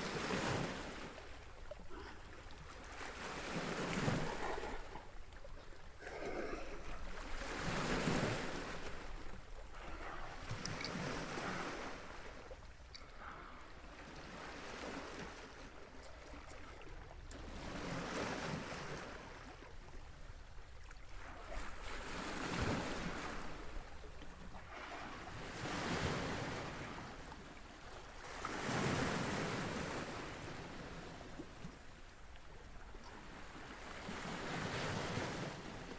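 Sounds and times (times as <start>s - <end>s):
small waves washing onto shore: 0.0s - 35.9s.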